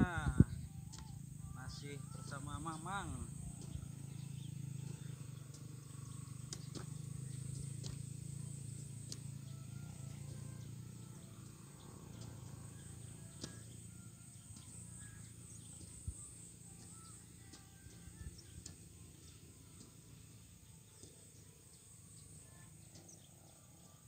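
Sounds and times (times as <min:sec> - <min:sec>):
bird chirps: 0:00.0 - 0:24.0
high-pitched insect drone: 0:00.0 - 0:24.0.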